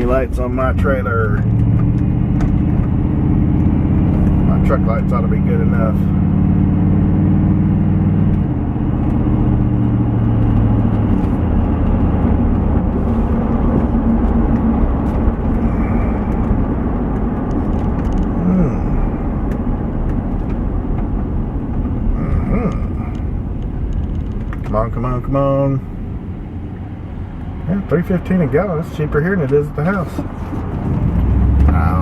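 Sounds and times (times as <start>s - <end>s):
truck engine rumble: 0.0s - 32.0s.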